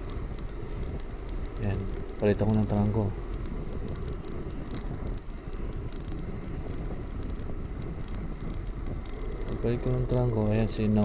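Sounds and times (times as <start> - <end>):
bicycle tyre noise on road: 0.0 - 11.0
wind rushing on microphone: 0.0 - 11.0.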